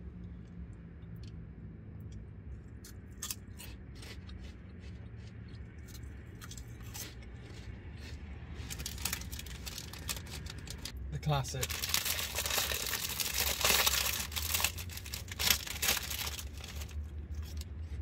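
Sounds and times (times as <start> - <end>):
crunching crispy snack: 2.8 - 18.0.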